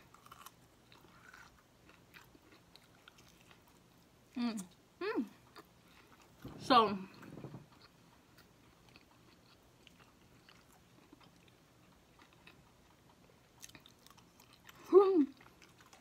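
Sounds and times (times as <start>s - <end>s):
person chewing: 0.0s - 4.0s, 5.4s - 6.5s, 7.2s - 16.0s.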